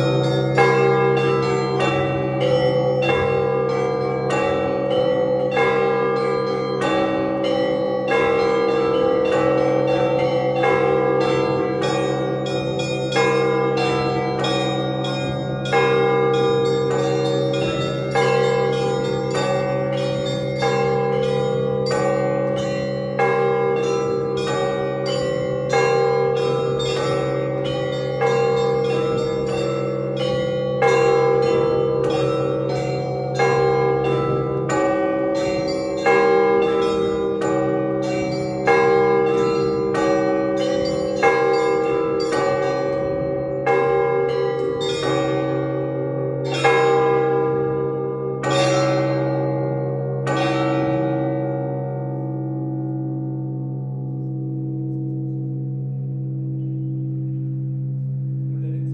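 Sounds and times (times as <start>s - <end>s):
large bell striking: 0.0s - 58.9s
small bells ringing pattern: 0.0s - 58.9s.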